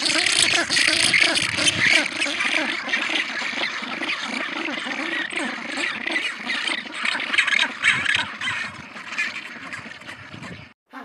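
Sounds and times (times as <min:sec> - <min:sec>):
penguins braying and squawking: 0:00.0 - 0:11.0.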